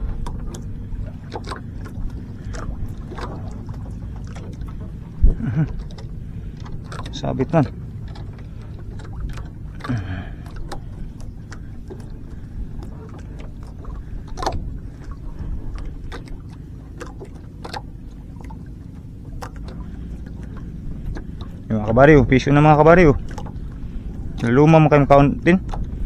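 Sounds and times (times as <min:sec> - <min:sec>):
knocks and clicks of fishing gear: 0:00.0 - 0:21.6, 0:25.6 - 0:26.0
steady low rumble: 0:00.0 - 0:26.0
water sloshing against boat hull: 0:00.0 - 0:26.0.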